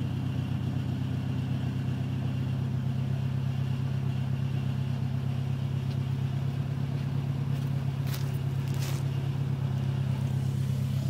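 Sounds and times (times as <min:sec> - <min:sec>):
pickup engine idling: 0:00.0 - 0:11.0.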